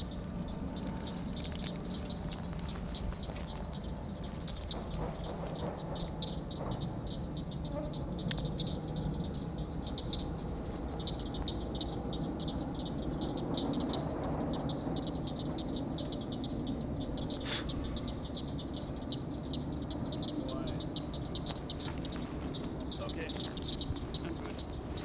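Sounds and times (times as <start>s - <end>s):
frogs and insects chirping: 0.0s - 25.0s
steady high drone: 0.0s - 25.0s.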